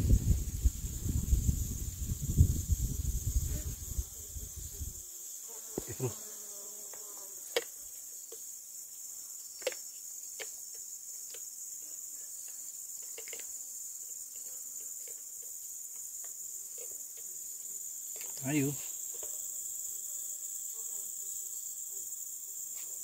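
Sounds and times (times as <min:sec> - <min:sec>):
insects buzzing: 0:00.0 - 0:23.0.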